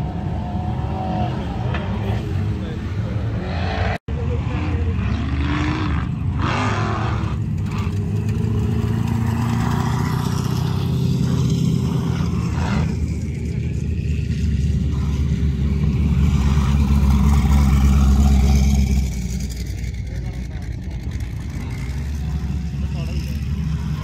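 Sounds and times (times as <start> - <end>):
off-road vehicle engine rumbling: 0.0 - 24.0.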